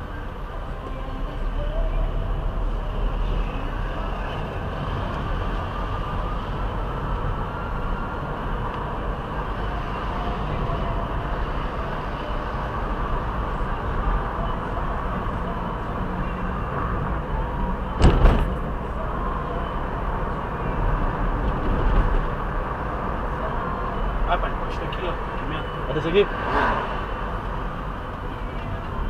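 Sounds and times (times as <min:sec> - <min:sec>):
car engine rumble: 0:00.0 - 0:29.0.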